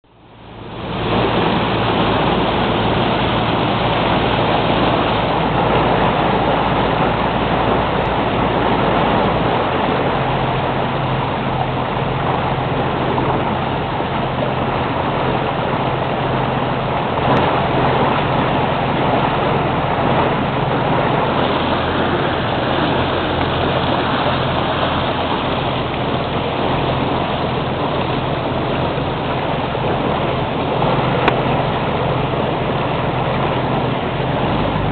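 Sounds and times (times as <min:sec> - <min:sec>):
boat engine droning: 0:00.0 - 0:34.9
water rushing along hull: 0:00.0 - 0:34.9.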